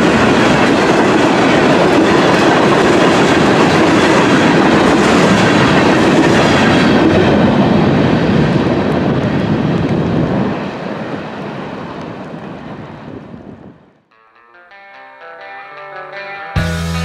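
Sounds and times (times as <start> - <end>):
freight train wheels on rails: 0.0 - 13.8.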